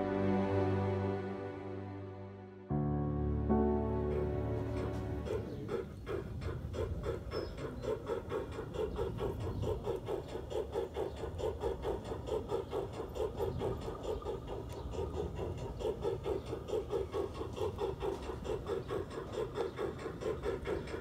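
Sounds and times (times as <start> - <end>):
model steam locomotive chuffing: 3.9 - 21.0.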